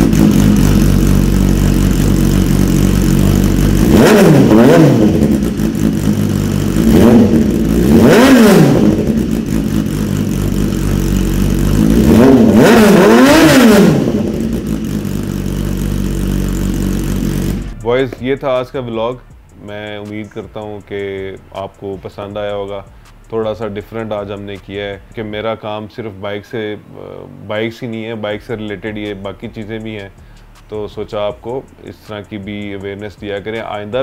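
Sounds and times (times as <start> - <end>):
motorcycle engine idling and revving: 0.0 - 25.5, 28.3 - 34.0.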